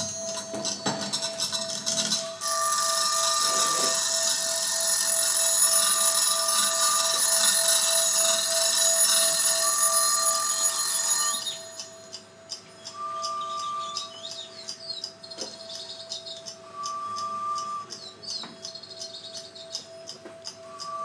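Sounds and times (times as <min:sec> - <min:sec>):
higher electronic tone: 0:00.0 - 0:14.6, 0:16.6 - 0:19.0, 0:19.9 - 0:21.0
high hissing and ringing noise wall: 0:00.0 - 0:15.2, 0:15.9 - 0:19.0, 0:19.8 - 0:21.0
steady mid-pitched tone: 0:00.0 - 0:21.0.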